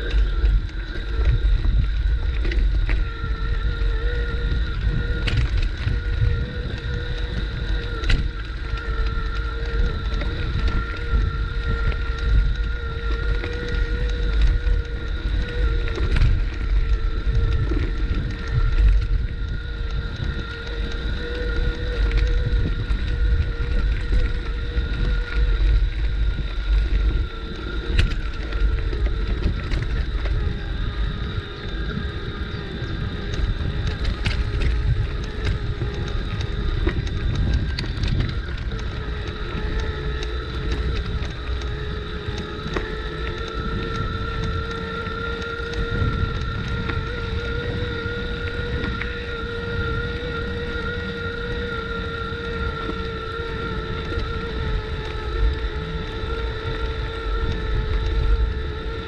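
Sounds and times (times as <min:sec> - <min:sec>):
bicycle tyre rumble: 0:00.0 - 0:59.0
bicycle whine: 0:00.0 - 0:59.0
bike clicks and rattles: 0:00.0 - 0:59.0
wind buffeting microphone: 0:00.0 - 0:59.0.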